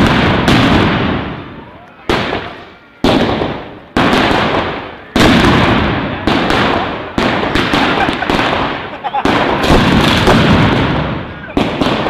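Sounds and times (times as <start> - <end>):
firecrackers banging: 0.0 - 12.0.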